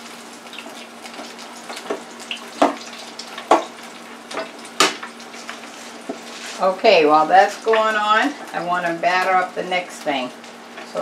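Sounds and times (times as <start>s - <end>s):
onion rings sizzling in oil: 0.0s - 11.0s.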